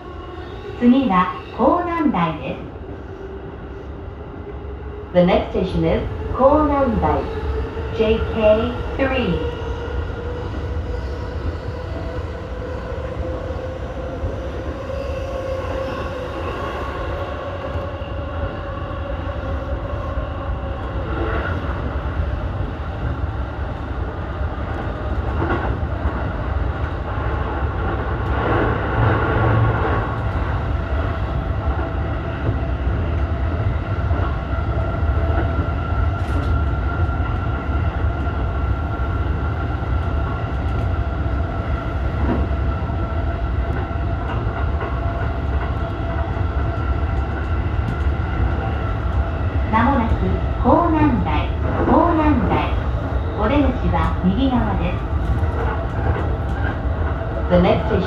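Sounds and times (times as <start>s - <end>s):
wheels rumbling on rail: 4.9s - 58.0s.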